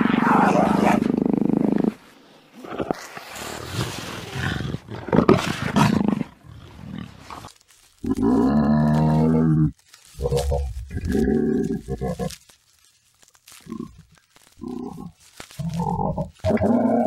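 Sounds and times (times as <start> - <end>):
jaguar growling: 0.0 - 2.0, 2.6 - 12.4, 14.6 - 17.0.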